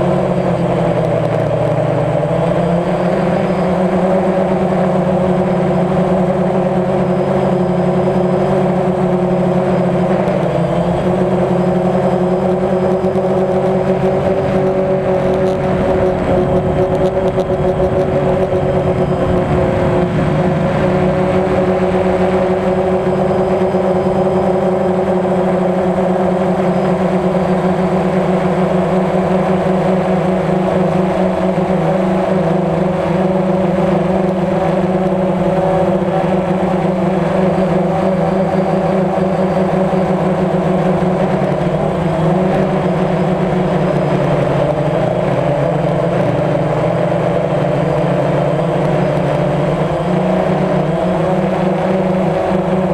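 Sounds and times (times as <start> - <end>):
drone propellers buzzing: 0.0 - 52.9.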